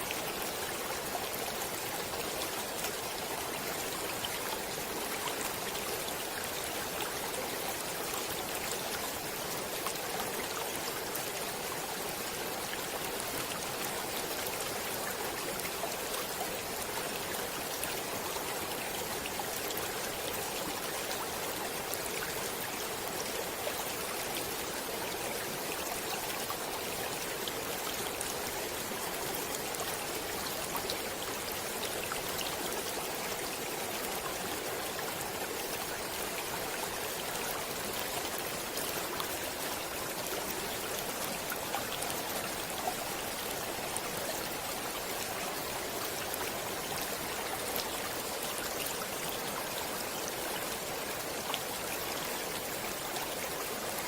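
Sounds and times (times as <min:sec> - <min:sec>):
stream water over stones: 0:00.0 - 0:54.0.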